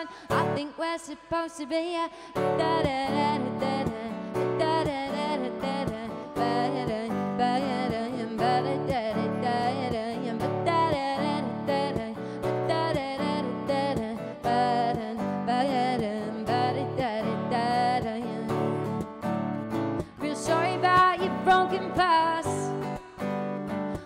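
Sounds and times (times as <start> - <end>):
woman singing: 0.0 - 19.1, 20.0 - 24.0
acoustic guitar strumming: 2.4 - 24.0.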